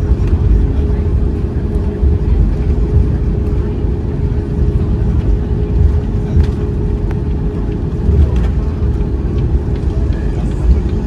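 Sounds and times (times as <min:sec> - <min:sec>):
airliner cabin rumble and hum: 0:00.0 - 0:11.0.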